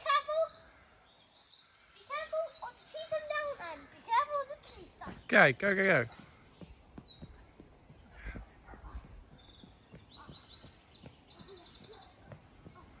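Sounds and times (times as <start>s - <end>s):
bird trill: 0.0s - 5.3s, 6.0s - 13.0s
songbirds chirping: 0.0s - 13.0s.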